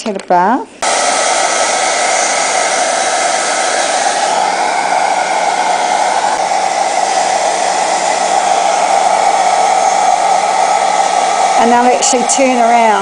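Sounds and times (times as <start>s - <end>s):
blow dryer running: 0.8s - 13.0s.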